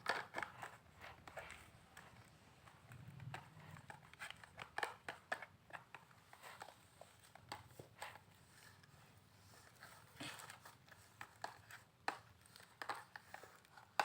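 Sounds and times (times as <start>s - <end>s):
spoon stirring slime: 0.0s - 14.0s.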